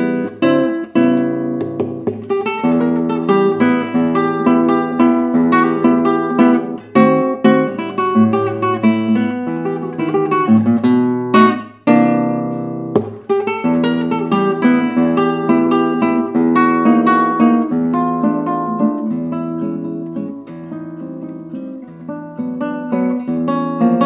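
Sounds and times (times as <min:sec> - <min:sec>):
acoustic guitar picking and strumming: 0:00.0 - 0:24.0.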